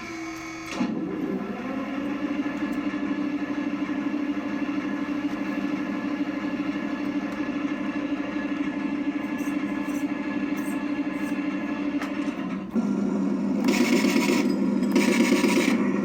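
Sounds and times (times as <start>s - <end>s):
simulated tank engine: 0.0s - 16.0s.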